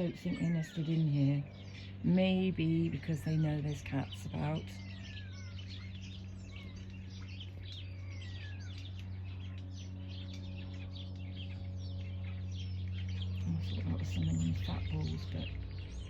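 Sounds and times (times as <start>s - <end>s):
birds chirping and calling: 0.0s - 16.0s
steady low hum: 0.0s - 16.0s.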